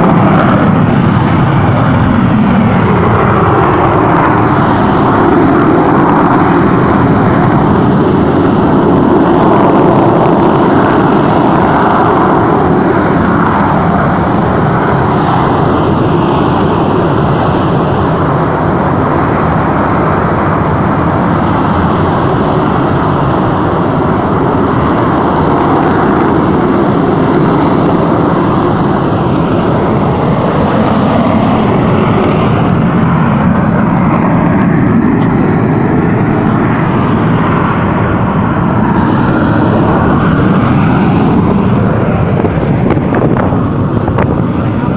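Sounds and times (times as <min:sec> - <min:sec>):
volcanic crater rumbling: 0:00.0 - 0:44.9.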